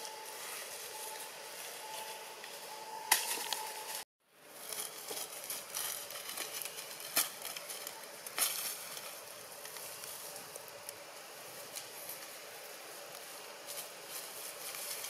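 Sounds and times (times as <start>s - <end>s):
dry leaves crackling: 0.0s - 15.0s.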